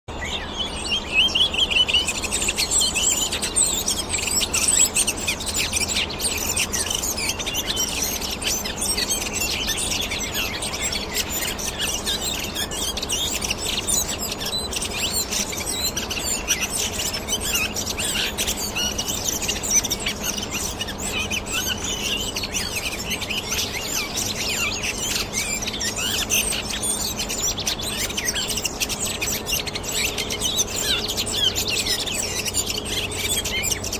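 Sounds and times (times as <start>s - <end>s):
flock of birds chattering: 0.1s - 33.9s.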